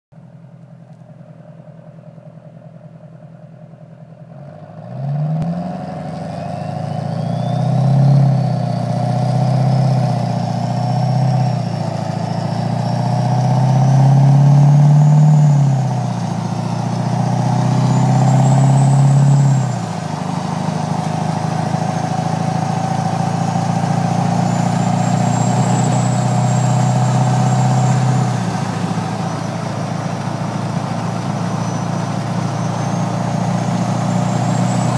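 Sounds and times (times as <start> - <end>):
diesel engine: 0.1 - 34.9
turbo whistle: 6.2 - 34.9.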